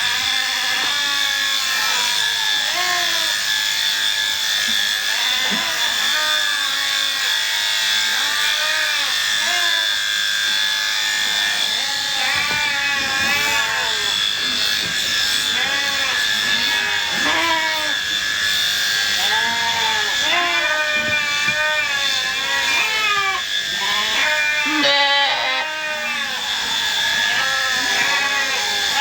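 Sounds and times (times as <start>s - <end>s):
electric clippers whining: 0.0s - 29.0s
sheep bleating: 0.2s - 18.1s, 19.1s - 29.0s.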